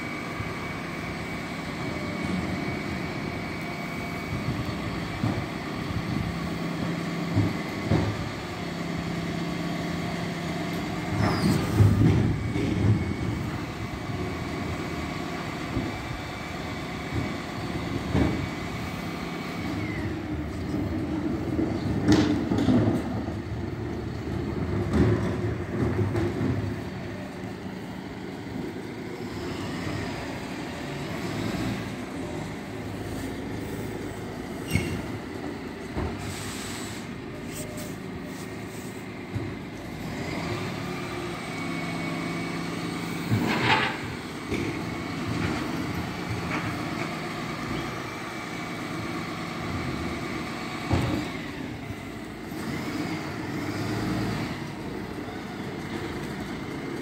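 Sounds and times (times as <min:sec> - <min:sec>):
lorry engine running: 0:00.0 - 0:57.0.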